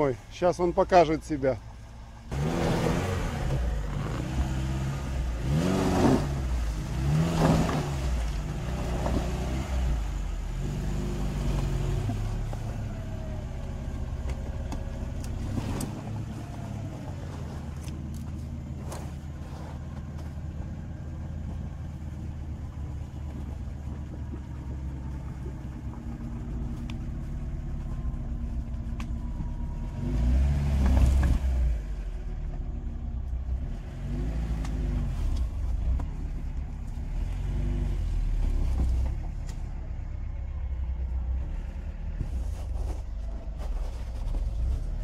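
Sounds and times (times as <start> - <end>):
car engine revving under load: 1.7 - 45.0.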